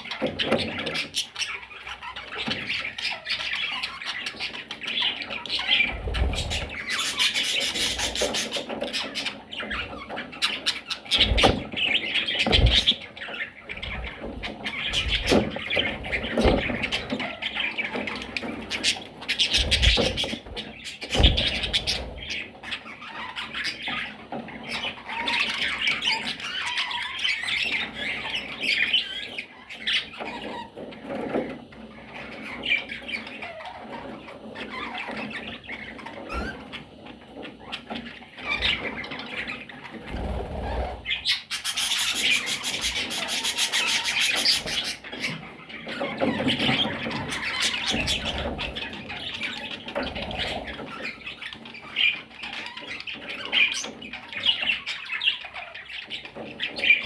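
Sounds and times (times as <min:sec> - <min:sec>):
birds moving thumps and clicks: 0:00.0 - 0:57.0
budgerigars chattering and squawking: 0:00.0 - 0:57.0.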